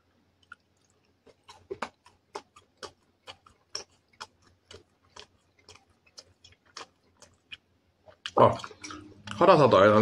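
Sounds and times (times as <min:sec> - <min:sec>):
chewing crunchy food: 0:00.0 - 0:09.6.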